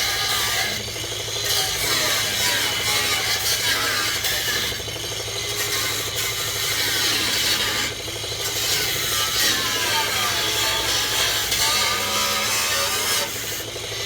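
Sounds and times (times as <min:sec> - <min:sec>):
power tool scraping metal: 0:00.0 - 0:14.0.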